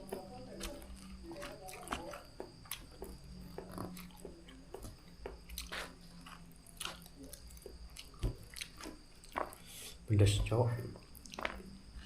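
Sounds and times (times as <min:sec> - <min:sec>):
person chewing and slurping noodles: 0:00.1 - 0:10.0.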